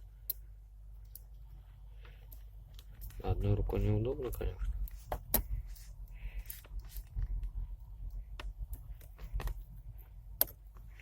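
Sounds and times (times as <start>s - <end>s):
low steady hum: 0.0s - 11.0s
clicks and handling noises: 0.2s - 11.0s.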